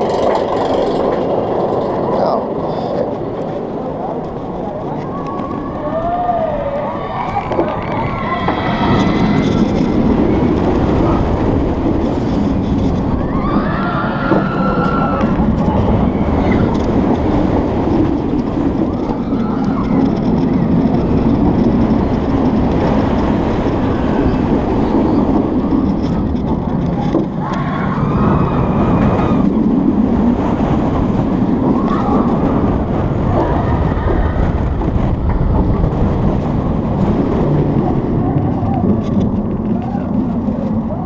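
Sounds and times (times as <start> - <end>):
roller coaster wheels rumbling: 0.0 - 41.0
wind on microphone: 0.0 - 41.0.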